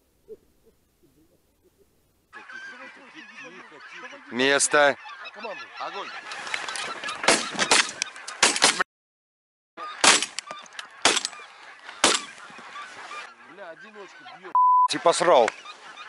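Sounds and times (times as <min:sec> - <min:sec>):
geese honking: 0:01.1 - 0:08.8, 0:09.8 - 0:16.0.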